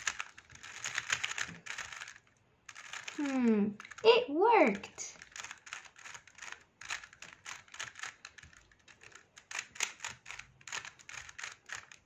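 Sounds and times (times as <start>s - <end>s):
puzzle cube clicking as turned: 0.0s - 4.0s, 5.1s - 12.0s.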